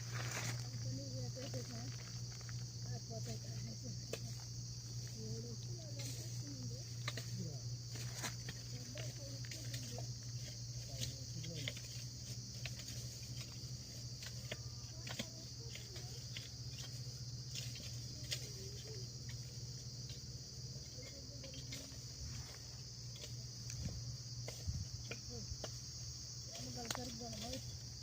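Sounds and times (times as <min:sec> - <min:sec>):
crickets chirring: 0:00.0 - 0:28.0.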